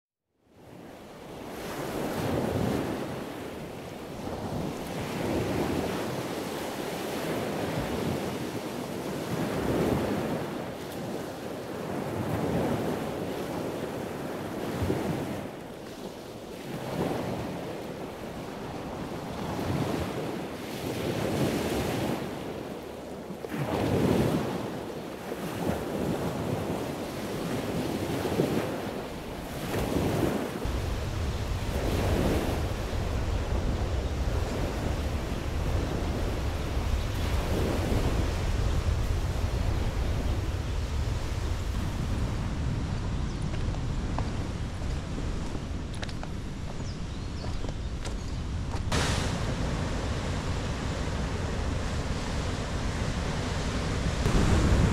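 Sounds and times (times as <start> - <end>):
wind on microphone: 0.6 - 22.8, 23.4 - 54.9
ocean surf washing in: 1.0 - 22.8, 23.4 - 46.0, 48.8 - 54.9.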